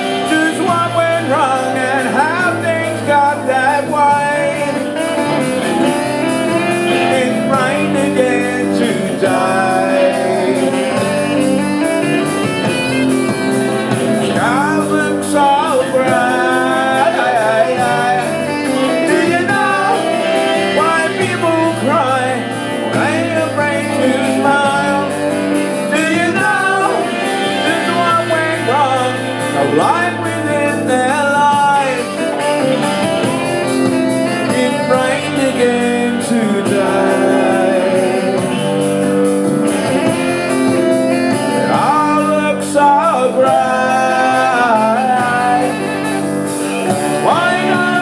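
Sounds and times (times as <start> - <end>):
bass guitar: 0.0 - 48.0
electric guitar: 0.0 - 48.0
person singing: 0.0 - 48.0.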